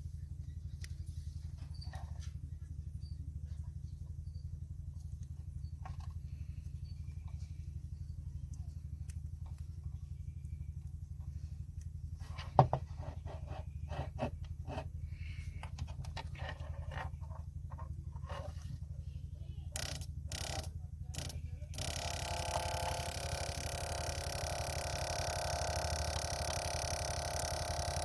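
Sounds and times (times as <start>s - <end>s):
small motor humming: 0.0s - 28.0s.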